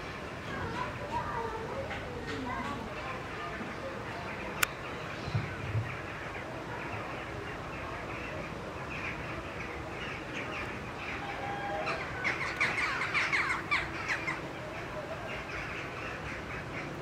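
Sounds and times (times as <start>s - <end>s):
outdoor background hum: 0.0s - 17.0s
small birds chirping: 0.2s - 17.0s.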